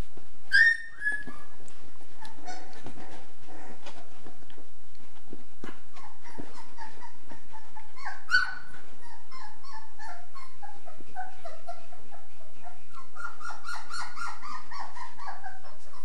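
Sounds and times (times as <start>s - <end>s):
puppy whimpering: 0.5s - 4.1s, 5.9s - 16.0s.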